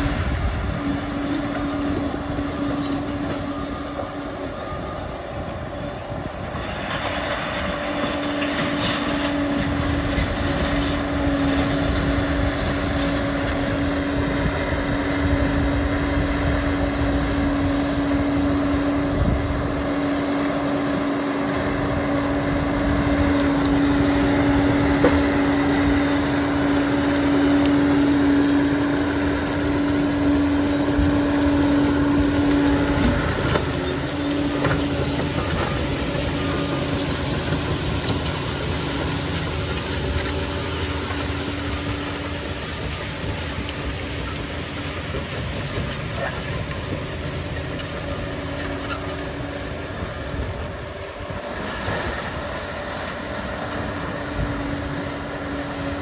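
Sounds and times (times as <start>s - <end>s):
bulldozer engine rumble with whine: 0.0s - 56.0s.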